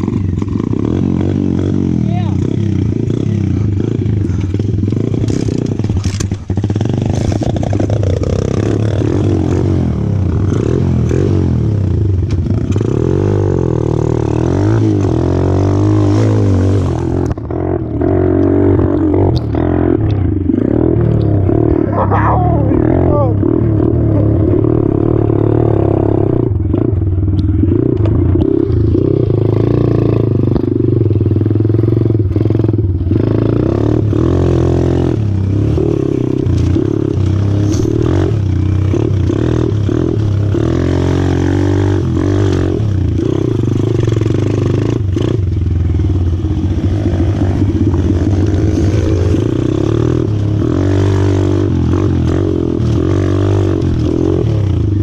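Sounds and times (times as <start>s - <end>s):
motorbike engine running: 0.0s - 55.0s.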